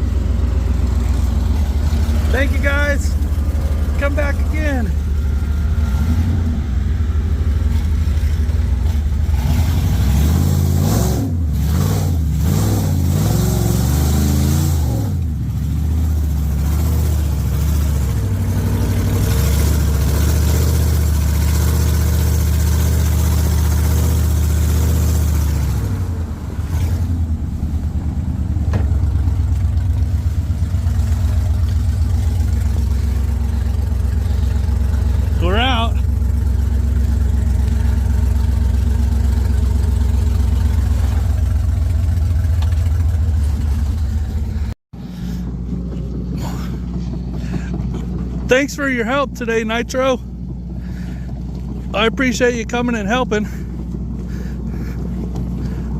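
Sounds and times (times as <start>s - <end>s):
heavy vehicle engine revving: 0.0s - 55.9s.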